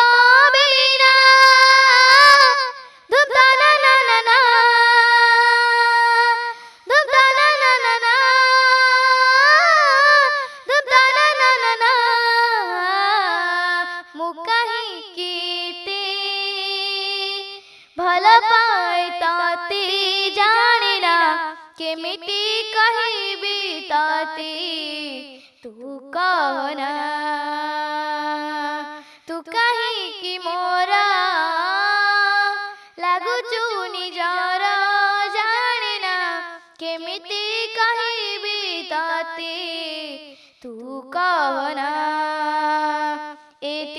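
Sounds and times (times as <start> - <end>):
person singing unaccompanied: 0.0 - 43.9.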